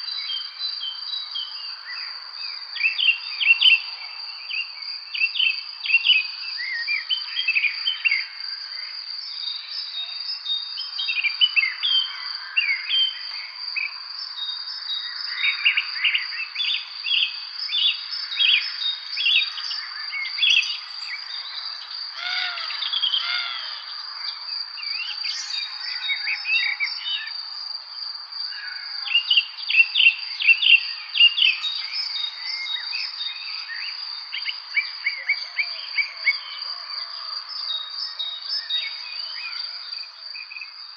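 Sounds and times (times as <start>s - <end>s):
insect trill: 0.0s - 40.9s
songbirds chirping: 0.0s - 40.9s.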